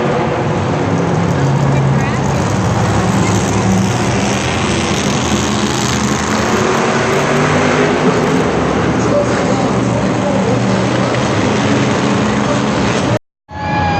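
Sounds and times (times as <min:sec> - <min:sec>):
monster truck engine running: 0:00.6 - 0:13.2.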